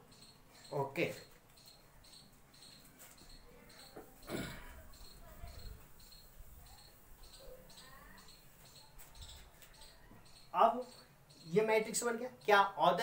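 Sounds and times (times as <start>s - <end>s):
cricket chirping: 0.0s - 12.5s.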